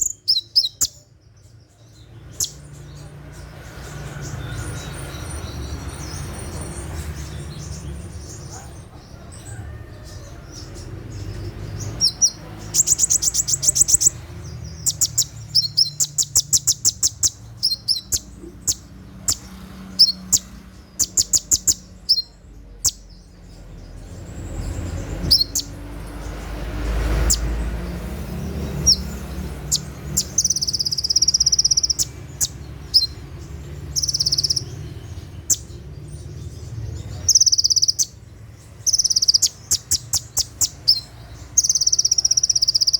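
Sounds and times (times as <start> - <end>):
sunbird singing trills: 0.0 - 42.9.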